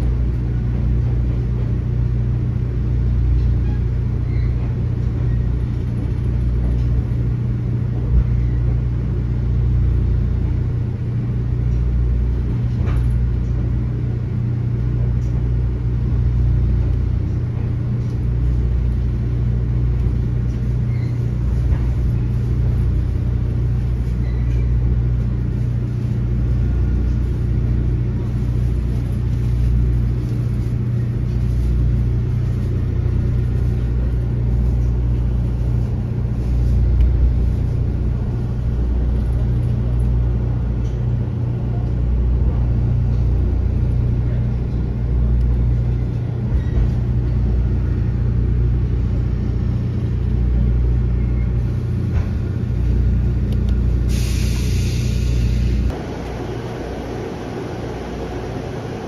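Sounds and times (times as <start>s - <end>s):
electric train hum and rumble: 0.0s - 59.0s.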